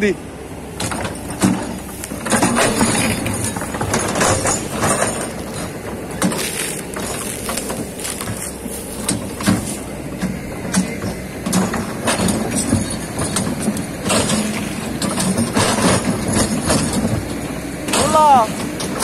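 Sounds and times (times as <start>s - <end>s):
excavator clanking and scraping: 0.0s - 19.0s
excavator diesel engine running: 0.0s - 19.0s.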